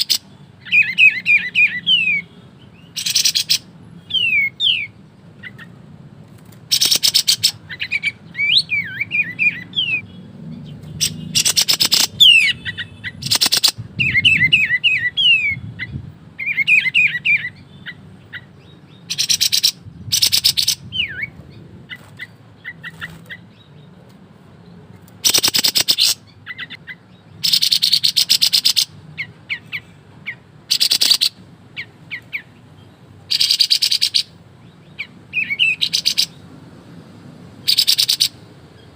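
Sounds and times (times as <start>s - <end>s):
songbird rattling song: 0.0s - 38.9s.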